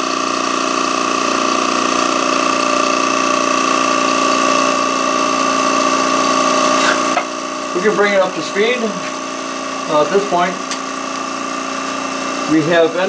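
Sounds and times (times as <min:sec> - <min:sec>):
vacuum pump humming: 0:00.0 - 0:13.0
wood lathe spinning: 0:00.0 - 0:13.0.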